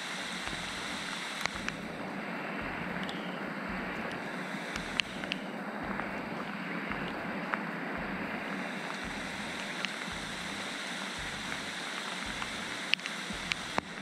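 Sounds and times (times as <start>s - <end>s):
heavy rain on lake: 0.0s - 14.0s.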